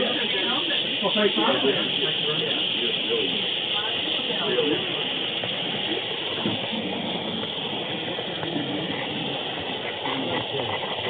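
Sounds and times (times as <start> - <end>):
faint room voices: 0.0 - 11.0
model train whirring on track: 0.0 - 11.0.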